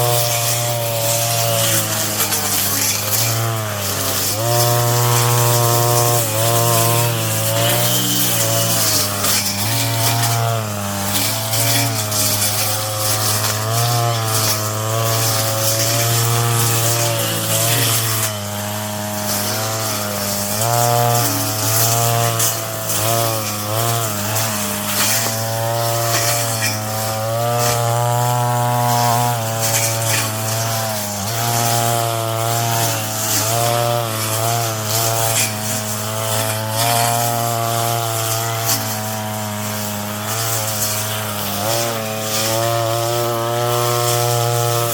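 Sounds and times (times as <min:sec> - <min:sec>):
brush cutter engine running: 0:00.0 - 0:44.9.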